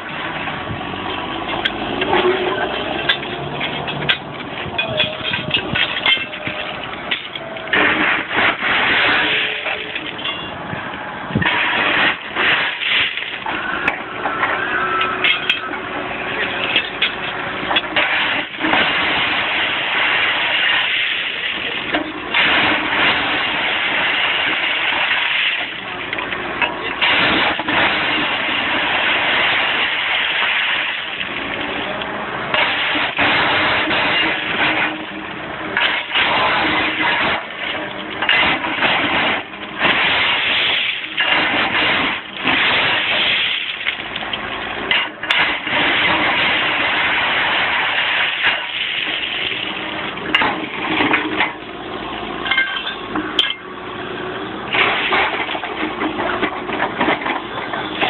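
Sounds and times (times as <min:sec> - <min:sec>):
railway track machinery working: 0:00.0 - 0:58.0.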